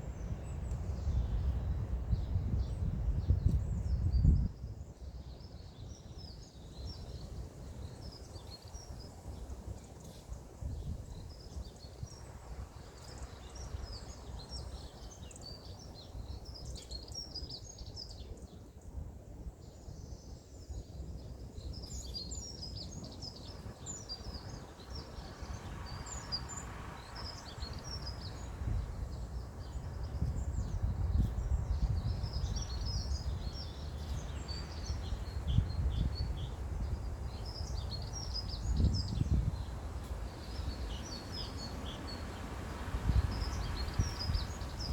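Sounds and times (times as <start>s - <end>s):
small birds chirping: 0.1s - 18.8s, 19.6s - 44.9s.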